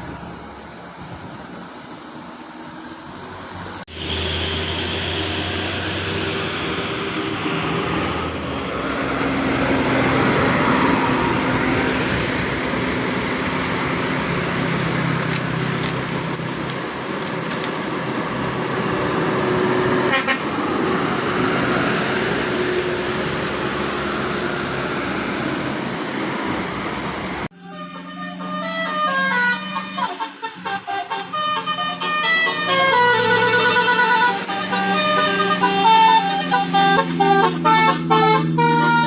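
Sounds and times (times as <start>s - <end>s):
bus engine and road noise: 0.0s - 39.0s
multi-tone bus horn: 3.9s - 16.4s, 18.4s - 39.0s.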